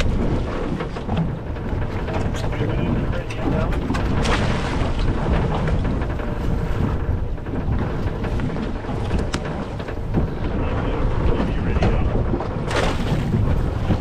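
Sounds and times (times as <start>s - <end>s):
boat motor running: 0.0s - 14.0s
wind buffeting microphone: 0.0s - 14.0s.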